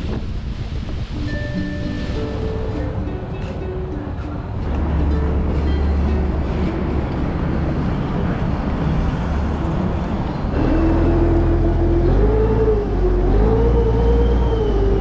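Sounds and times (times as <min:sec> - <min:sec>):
vehicle engine deep rumble: 0:00.0 - 0:15.0.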